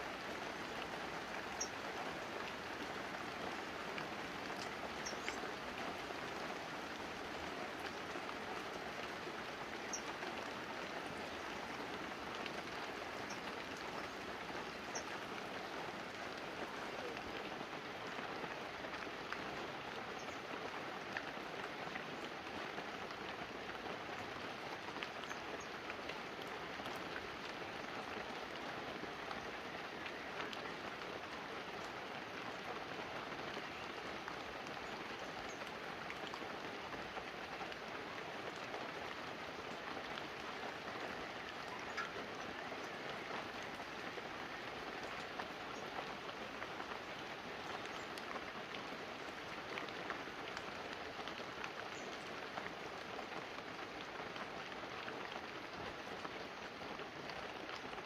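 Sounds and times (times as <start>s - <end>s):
rain on leaves and roof: 0.0s - 58.0s.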